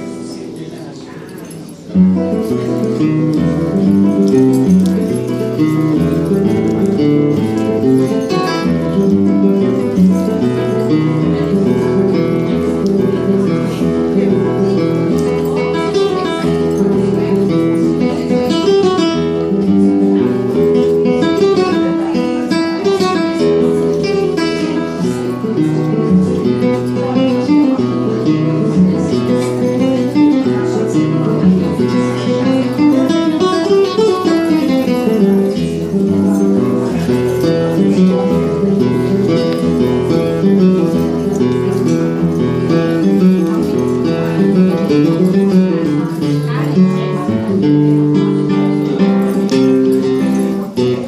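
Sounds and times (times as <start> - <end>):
flamenco acoustic guitar: 0.0 - 51.0.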